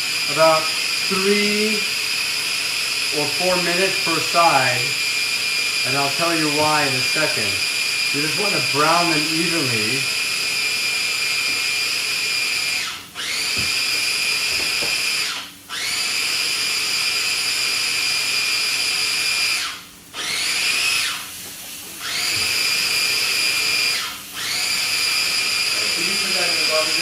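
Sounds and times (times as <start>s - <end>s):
food chopper motor whining: 0.0s - 27.0s.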